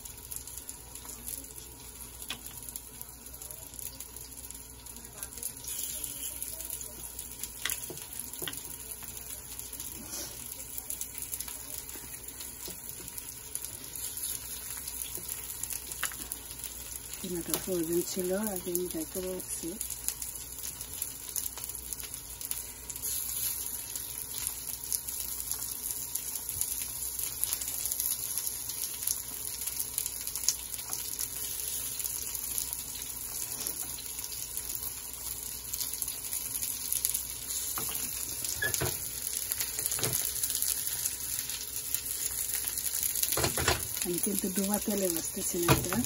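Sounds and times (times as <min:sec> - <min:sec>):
patties sizzling in oil: 0:00.0 - 0:46.0.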